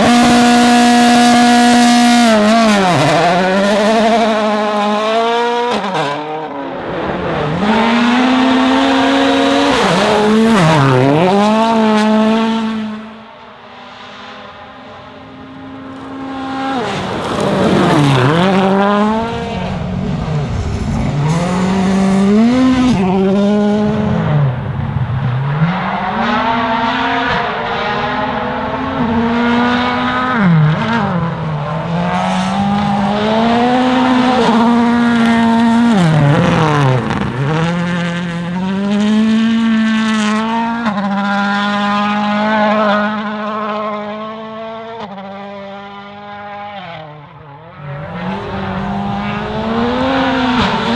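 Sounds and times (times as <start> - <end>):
rally car engine revving: 0.0 - 47.1, 47.7 - 50.9.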